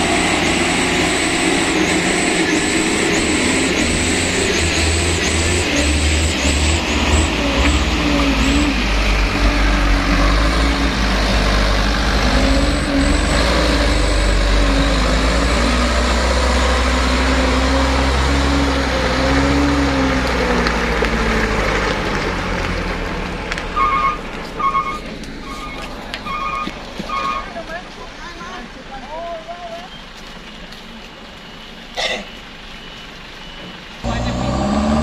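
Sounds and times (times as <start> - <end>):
truck diesel engines under load: 0.0 - 35.0.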